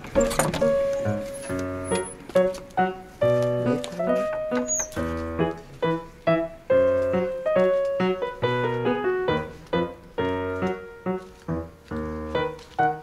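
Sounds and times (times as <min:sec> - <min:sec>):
bouncy piano tune: 0:00.0 - 0:13.0.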